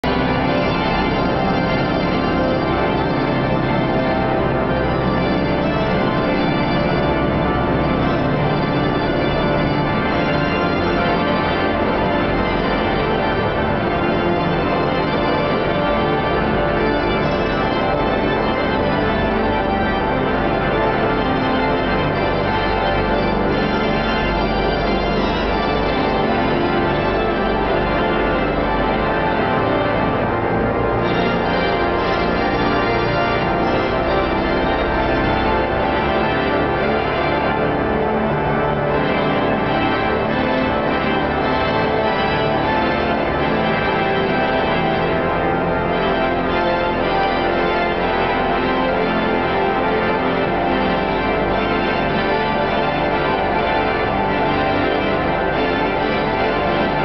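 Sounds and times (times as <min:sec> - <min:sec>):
pipe organ playing loudly: 0:00.0 - 0:57.0.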